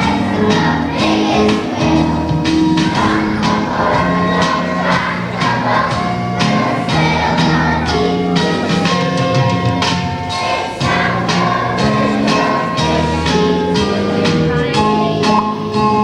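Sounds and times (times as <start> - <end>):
children singing in unison: 0.0 - 16.0
instrumental accompaniment with beat: 0.0 - 16.0.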